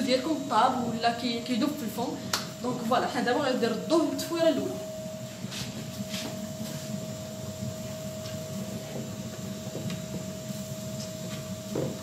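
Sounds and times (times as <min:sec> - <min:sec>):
constant mid-pitched tone: 0:00.0 - 0:11.9.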